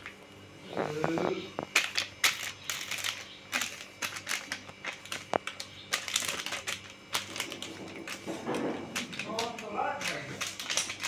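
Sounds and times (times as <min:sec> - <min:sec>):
plastic wrappers crinkling: 0:00.8 - 0:11.0.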